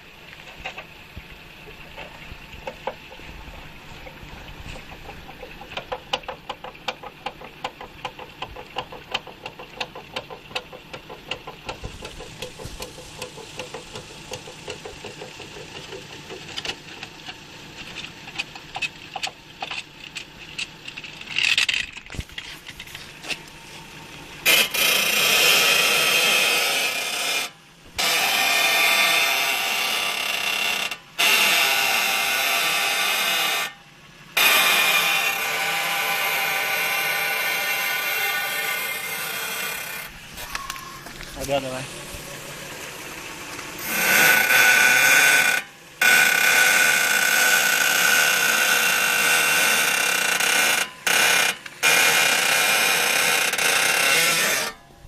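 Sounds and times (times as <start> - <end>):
car suspension creaking: 0.0 - 55.0.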